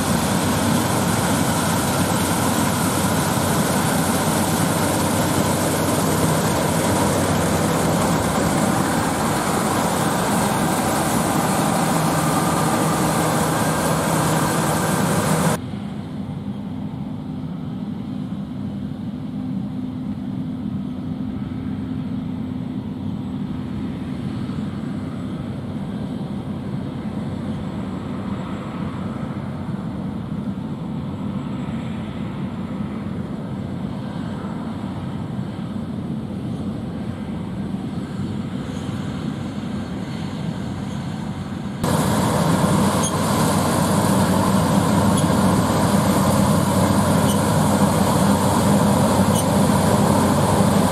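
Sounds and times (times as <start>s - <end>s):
combine harvester running: 0.0s - 50.9s.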